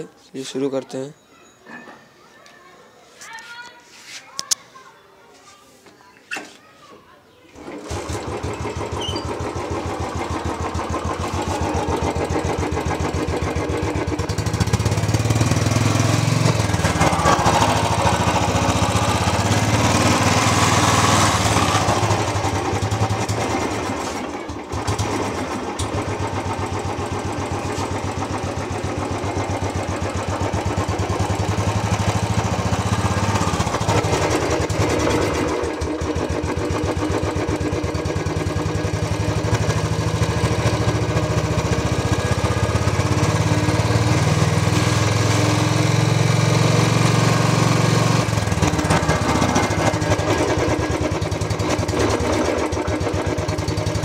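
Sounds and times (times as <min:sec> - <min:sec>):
single-cylinder motorcycle engine: 0:07.6 - 0:54.0.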